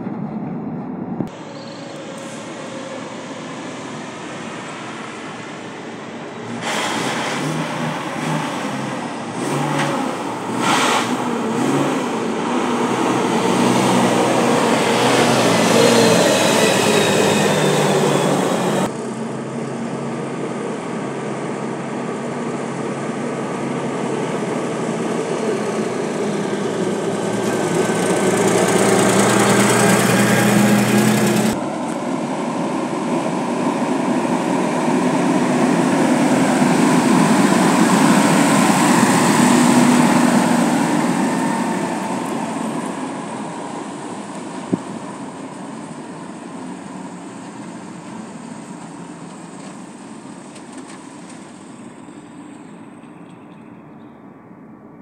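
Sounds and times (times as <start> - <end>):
diesel truck engines passing: 0.0 - 53.5
faint rising engine whine: 0.0 - 55.0.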